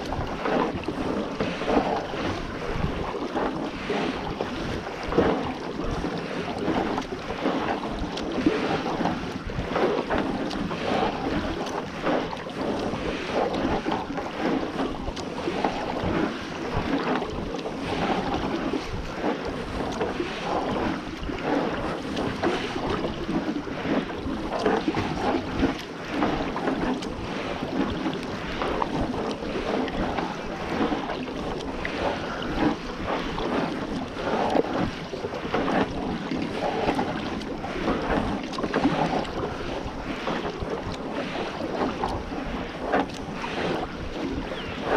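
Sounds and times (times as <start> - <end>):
paddle splashing through water: 0.0 - 44.9
wind buffeting microphone: 0.0 - 44.9.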